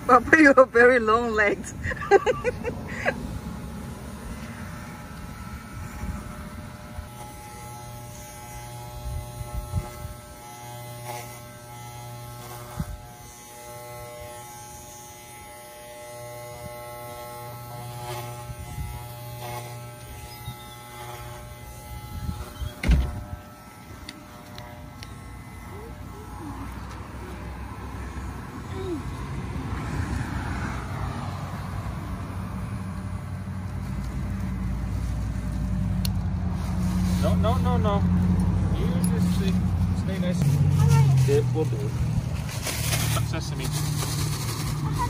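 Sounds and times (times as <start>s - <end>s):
electric clippers buzzing: 0.0s - 45.0s.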